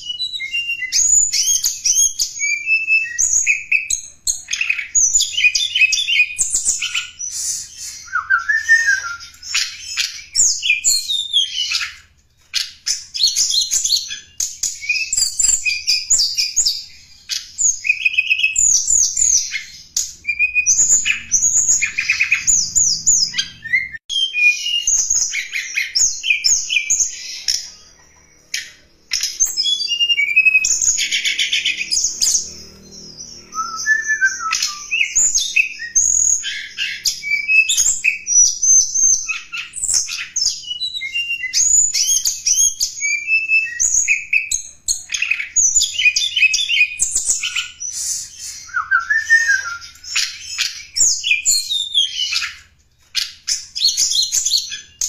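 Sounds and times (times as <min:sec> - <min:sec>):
bird song chirps and trills: 0:00.0 - 0:55.0.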